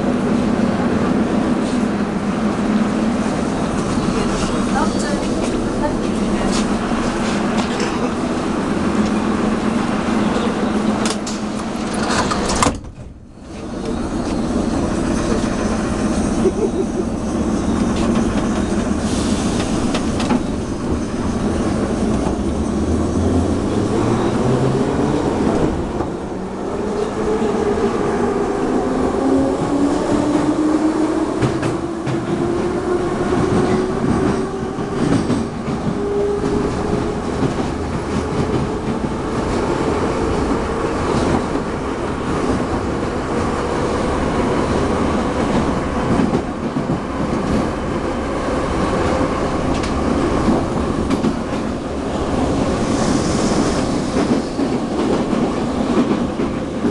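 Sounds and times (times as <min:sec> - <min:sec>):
train running noise: 0:00.0 - 0:56.9.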